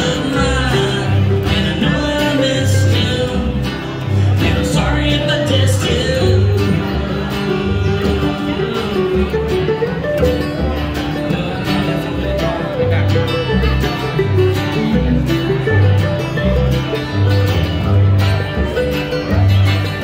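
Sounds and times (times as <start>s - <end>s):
bluegrass band playing: 0.0s - 20.0s
plucked upright bass: 0.0s - 20.0s.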